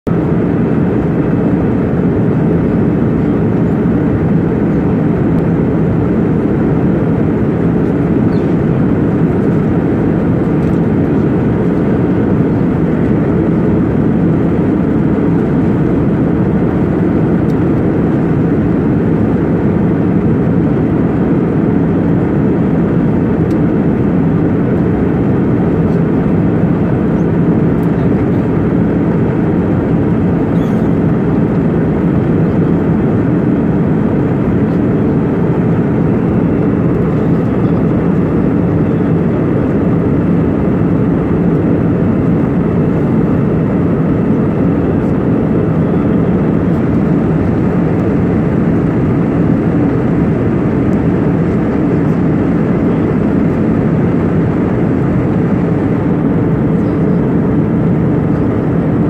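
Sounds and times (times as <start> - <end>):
jet airliner cabin rumble: 0.1 - 59.0.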